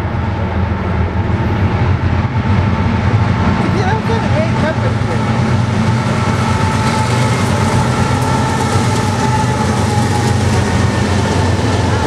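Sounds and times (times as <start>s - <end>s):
diesel locomotive engine drone: 0.0s - 12.0s
wheel and rail noise: 0.0s - 12.0s.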